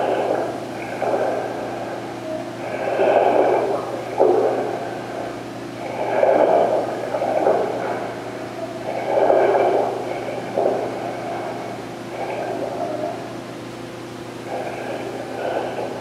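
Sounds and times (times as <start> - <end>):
diver breathing through regulator: 0.0 - 16.0.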